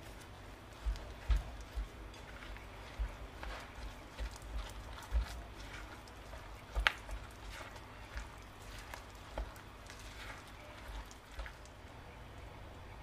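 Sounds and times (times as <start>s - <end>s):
spatula scraping dough in bowl: 0.8s - 11.7s.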